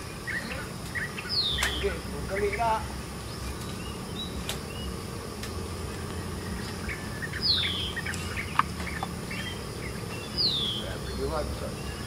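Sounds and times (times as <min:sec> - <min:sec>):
birds chirping: 0:00.0 - 0:12.0
insect drone: 0:00.0 - 0:12.0.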